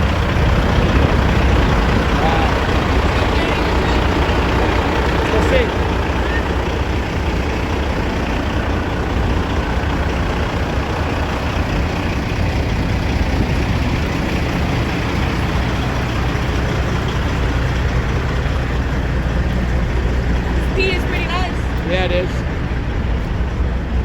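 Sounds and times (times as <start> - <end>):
truck diesel engine idling: 0.0 - 24.0.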